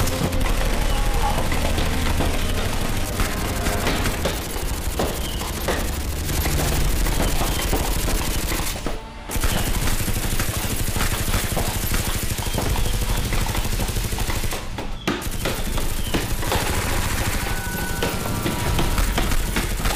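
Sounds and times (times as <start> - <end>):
rapid automatic gunfire: 0.0 - 19.9.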